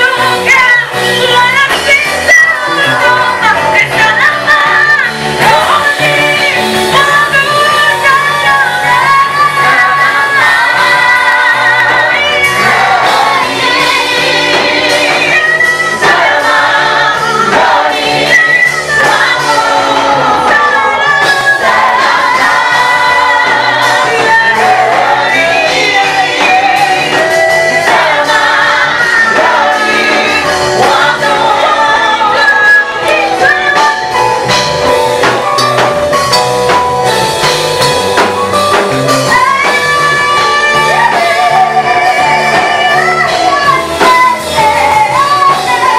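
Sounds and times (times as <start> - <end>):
choir singing gospel song: 0.0 - 45.9
drums: 0.0 - 45.9
instrumental backing with bass: 0.0 - 45.9.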